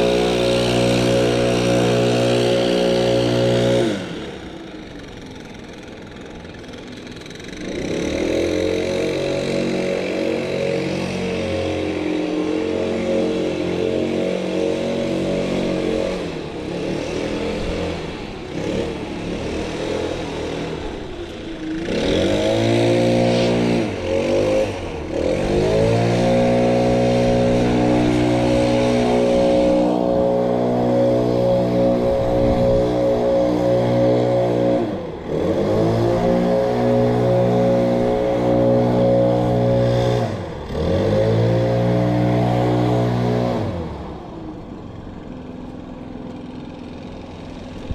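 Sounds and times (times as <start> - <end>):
small gasoline engine revving: 0.0 - 47.9.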